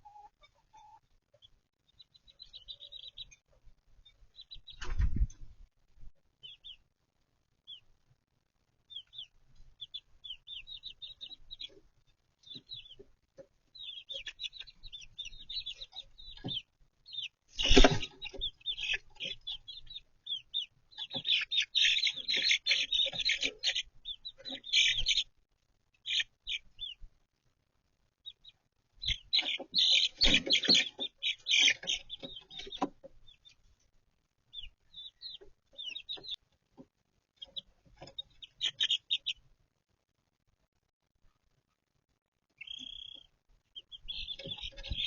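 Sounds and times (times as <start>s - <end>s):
chickens clucking: 0.0s - 5.6s, 8.9s - 27.2s, 28.2s - 33.9s, 34.5s - 39.5s, 42.5s - 45.0s
chicks peeping: 0.0s - 40.0s, 41.2s - 45.0s.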